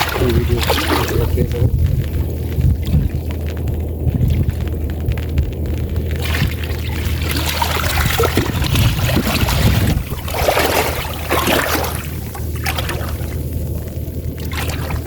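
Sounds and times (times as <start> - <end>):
steady low hum: 0.0 - 15.0
water splashing and trickling: 0.0 - 15.0.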